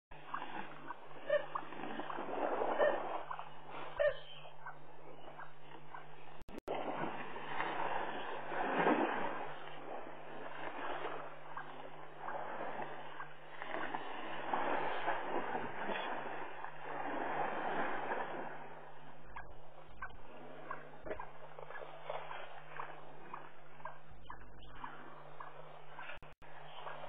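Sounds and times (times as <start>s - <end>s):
steady low hum: 0.1s - 27.0s
water splashing and sloshing: 0.1s - 27.0s.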